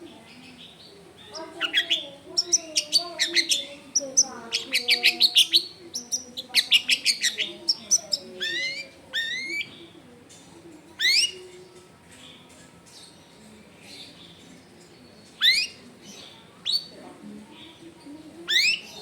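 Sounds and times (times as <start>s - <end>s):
bird singing: 0.0s - 10.0s, 11.0s - 17.0s, 17.6s - 19.0s.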